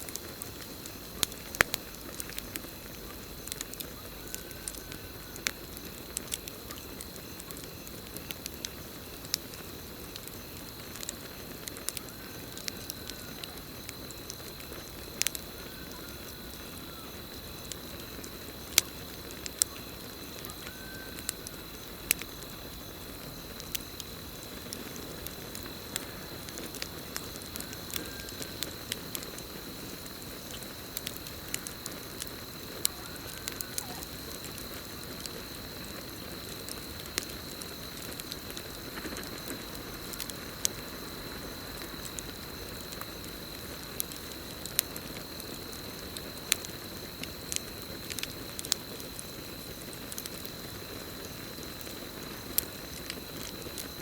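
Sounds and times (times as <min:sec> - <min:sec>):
campfire crackling and popping: 0:00.0 - 0:54.0
cricket trill: 0:00.0 - 0:54.0.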